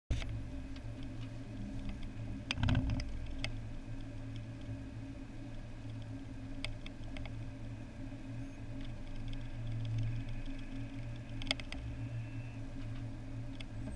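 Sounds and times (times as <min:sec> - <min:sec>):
car engine and road hum: 0:00.2 - 0:13.9.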